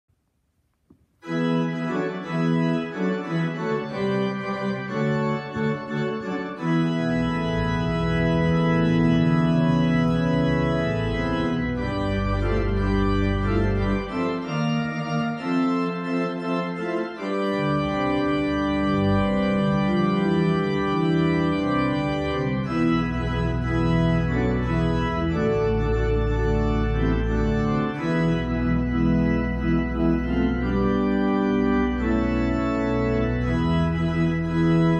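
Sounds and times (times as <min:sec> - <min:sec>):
church organ chords: 0:01.2 - 0:34.9
deep organ pedal bass notes: 0:01.2 - 0:34.9.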